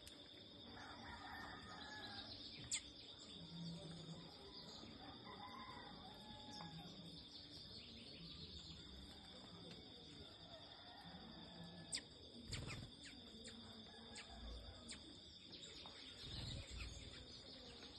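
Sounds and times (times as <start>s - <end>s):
high insect drone: 0.0s - 17.9s.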